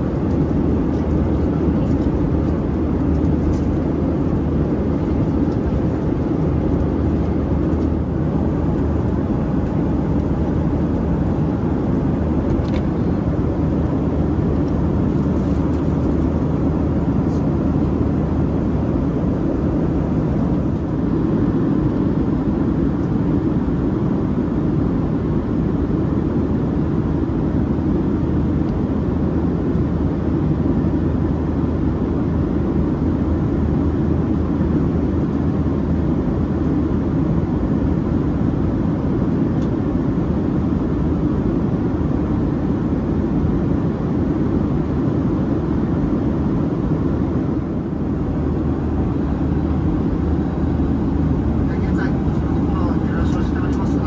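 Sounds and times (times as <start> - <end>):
airplane cabin rumble: 0.0 - 25.9, 26.6 - 54.0.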